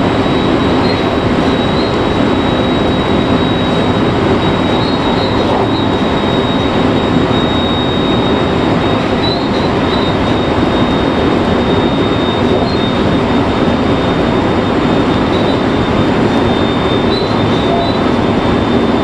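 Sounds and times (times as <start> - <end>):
thin high whine: 0.0 - 19.0
train wheels rumbling on rails: 0.0 - 19.0.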